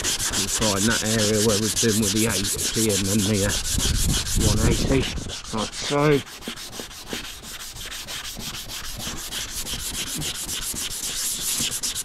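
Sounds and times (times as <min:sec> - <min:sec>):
sandpaper rasping on fibreglass: 0:00.0 - 0:12.0.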